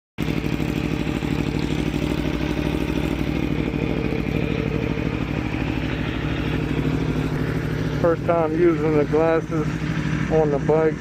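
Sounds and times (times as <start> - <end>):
motorcycle engine idling: 0.2 - 11.0.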